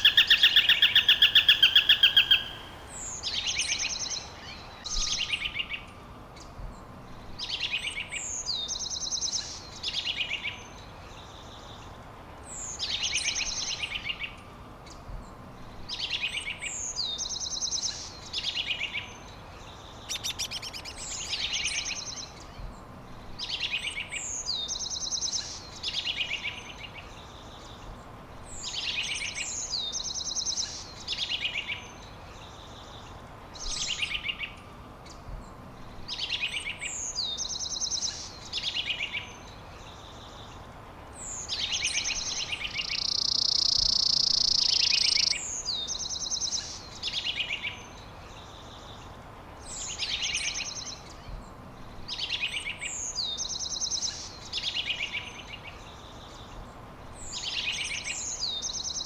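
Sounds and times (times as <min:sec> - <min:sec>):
songbird singing trill: 0:00.0 - 0:11.8, 0:12.5 - 0:59.0.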